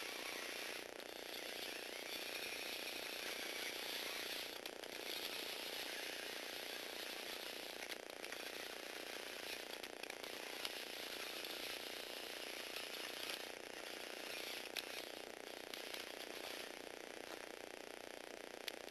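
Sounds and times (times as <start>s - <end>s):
small electric motor and gears whirring: 0.0s - 18.9s.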